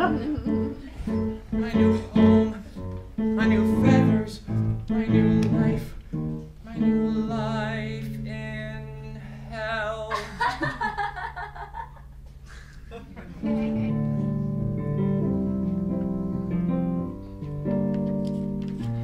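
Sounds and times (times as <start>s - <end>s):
acoustic guitar: 0.0s - 10.1s, 13.3s - 19.0s.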